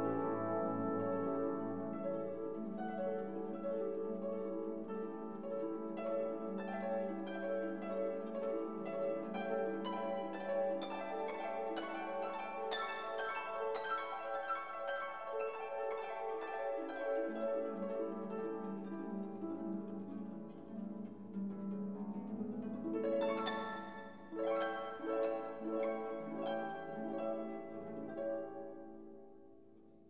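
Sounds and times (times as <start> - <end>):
instrumental music plucked notes: 0.0 - 29.6.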